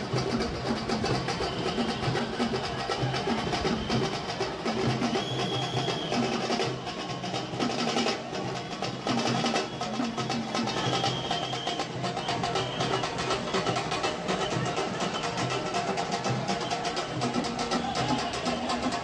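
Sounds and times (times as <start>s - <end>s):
fast dense drumming: 0.0s - 19.0s.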